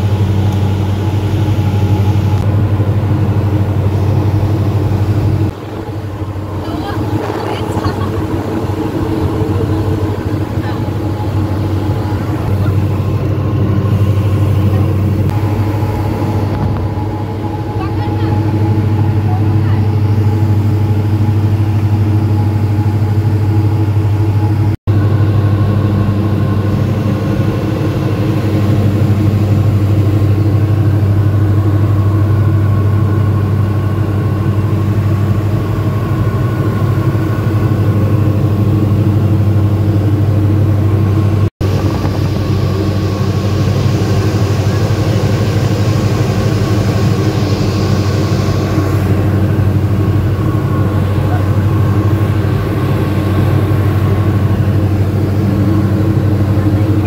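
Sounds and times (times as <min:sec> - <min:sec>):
propeller engines droning in cabin: 0:00.0 - 0:57.0.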